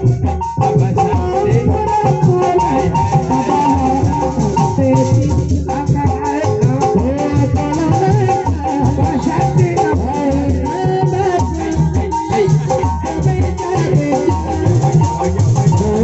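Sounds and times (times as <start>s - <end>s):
drum rhythm: 0.0s - 16.0s
rattling percussion: 0.0s - 16.0s
wavering melodic line: 0.0s - 16.0s.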